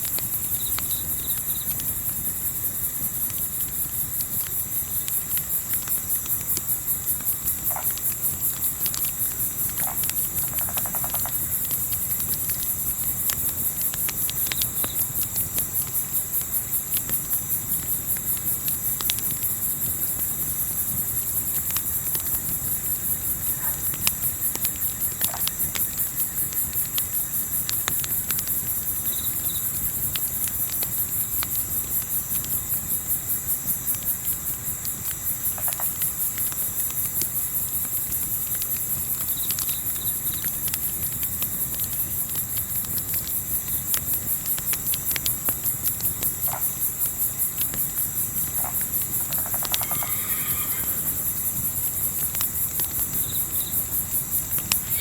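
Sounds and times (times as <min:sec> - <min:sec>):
campfire crackling: 0:00.0 - 0:55.0
crickets chirping: 0:00.0 - 0:55.0.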